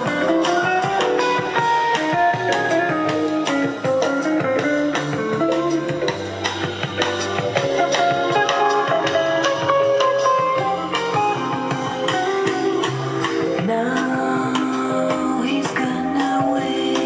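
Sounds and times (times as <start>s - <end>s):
music with guitar and drums: 0.0s - 17.0s.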